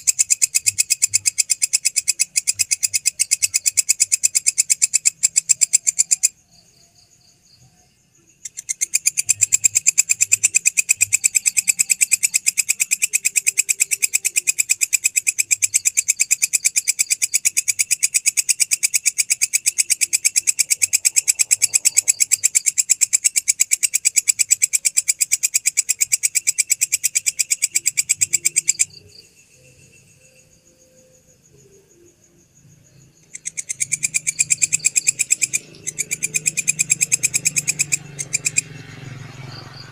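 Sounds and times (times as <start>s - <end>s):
grasshopper buzzing trill: 0.0s - 7.3s, 8.4s - 39.9s
faint insect trill: 0.0s - 39.9s.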